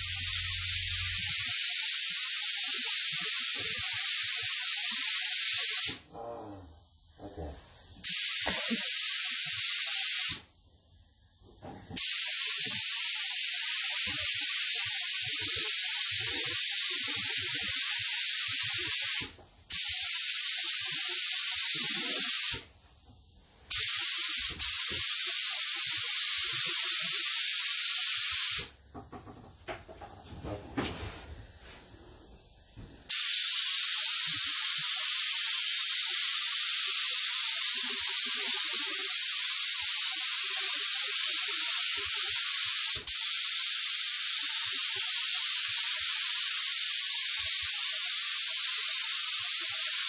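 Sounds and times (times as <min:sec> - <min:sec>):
spray paint hissing: 0:00.0 - 0:06.0, 0:07.3 - 0:10.5, 0:11.9 - 0:22.7, 0:23.6 - 0:28.8, 0:33.1 - 0:50.0.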